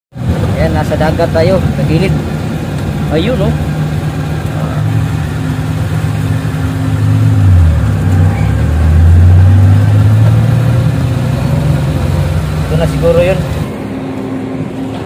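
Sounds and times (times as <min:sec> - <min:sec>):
vehicle engine hum: 0:00.1 - 0:15.0.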